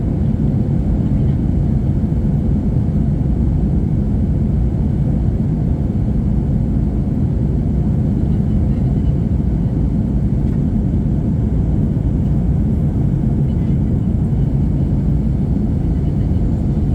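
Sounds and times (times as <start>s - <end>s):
jet engines rumbling: 0.0s - 16.9s.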